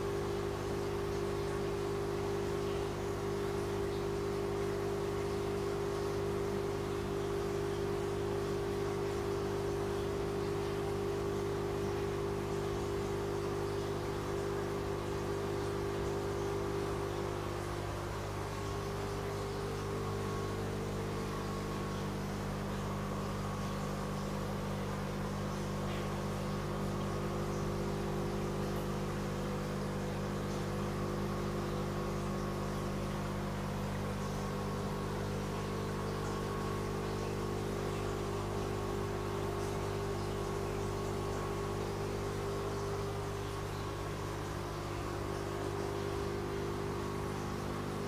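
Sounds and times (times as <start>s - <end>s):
bubbling and trickling water: 0.0s - 48.0s
pumps humming: 0.0s - 48.0s.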